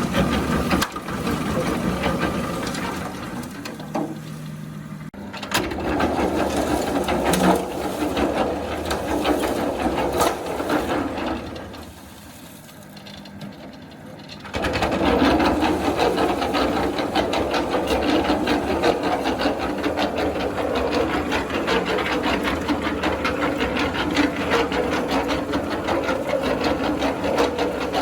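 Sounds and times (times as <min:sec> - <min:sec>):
concrete mixer gearbox clattering: 0:00.0 - 0:04.6, 0:05.2 - 0:28.0.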